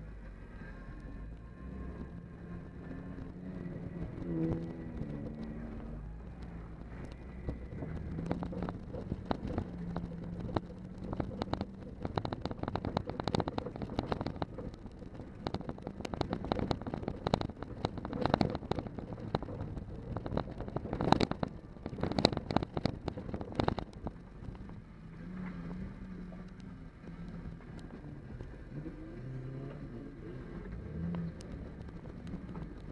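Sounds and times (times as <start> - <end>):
vehicle engine running: 0.0 - 32.9
knocks and clatters over gravel: 1.8 - 32.9.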